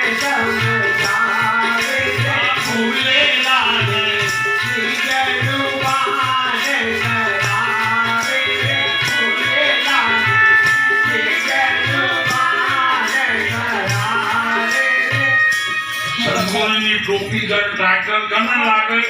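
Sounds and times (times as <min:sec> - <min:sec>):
drum beat: 0:00.0 - 0:17.6
wavering melody: 0:00.0 - 0:19.0.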